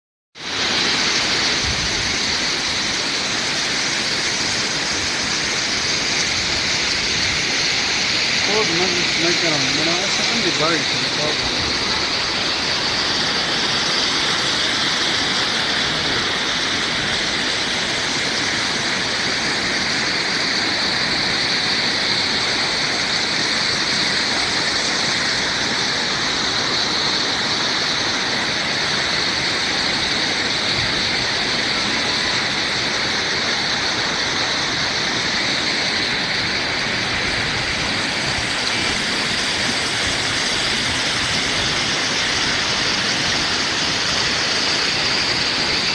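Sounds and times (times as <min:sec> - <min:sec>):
waterfall rushing: 0:00.4 - 0:45.9.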